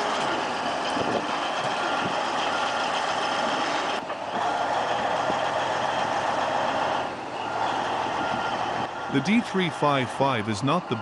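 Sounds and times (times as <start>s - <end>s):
bulldozer engine and tracks: 0.0s - 11.0s.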